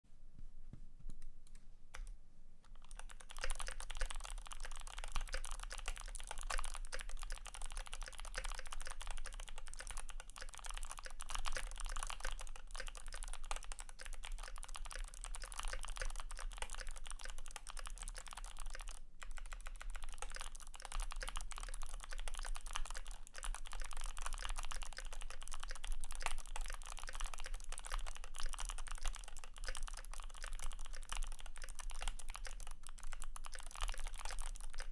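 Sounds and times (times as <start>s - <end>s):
mechanical keyboard typing: 2.7s - 34.9s.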